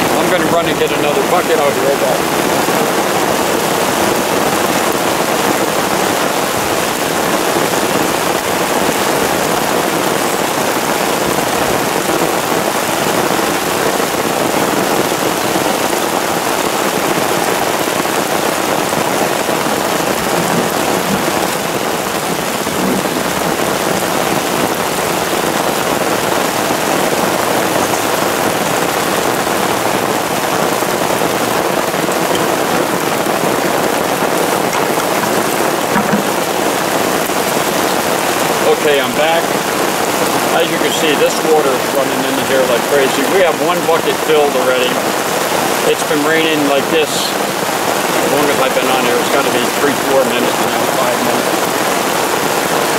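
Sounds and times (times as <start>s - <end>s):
heavy rain on tarp and grass: 0.0s - 52.9s
water pouring into plastic bucket: 0.1s - 52.1s.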